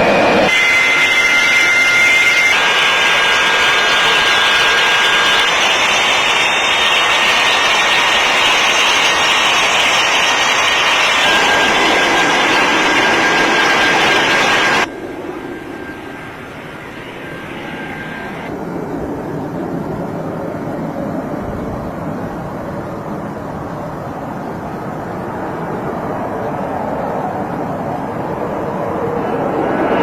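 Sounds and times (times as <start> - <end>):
airliner engines whining: 0.0 - 30.0.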